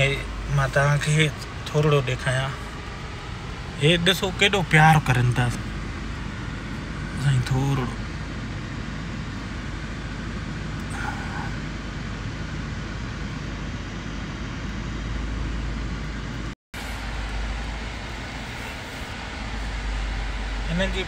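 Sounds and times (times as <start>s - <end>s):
car driving rumble: 0.0s - 21.0s.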